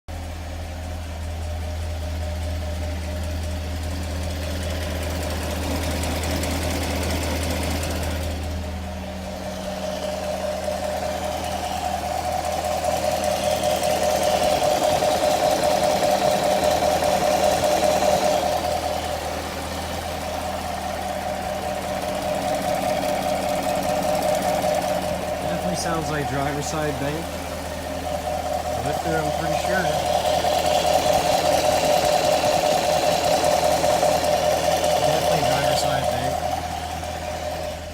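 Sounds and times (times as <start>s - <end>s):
car engine idling with rattly tick: 0.1s - 37.9s.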